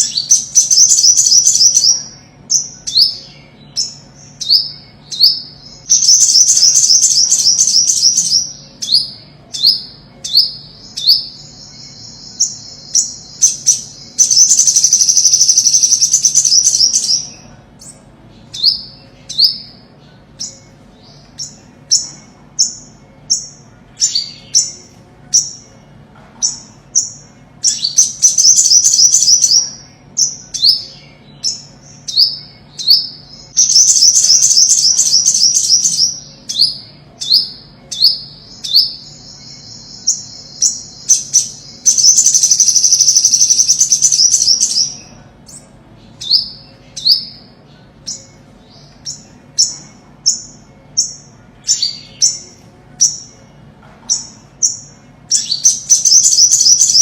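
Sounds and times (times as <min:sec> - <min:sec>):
sunbird calling: 0:00.0 - 0:25.7, 0:26.4 - 0:53.4, 0:54.1 - 0:57.0
sunbird twittering trills: 0:00.0 - 0:57.0.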